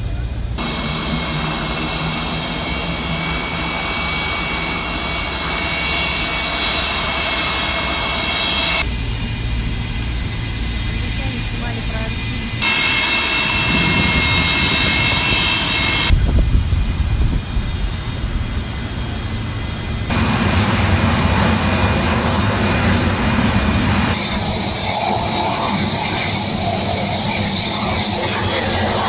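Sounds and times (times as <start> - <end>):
high turbine whine: 0.0 - 29.0
turbofan engines running: 0.0 - 29.0.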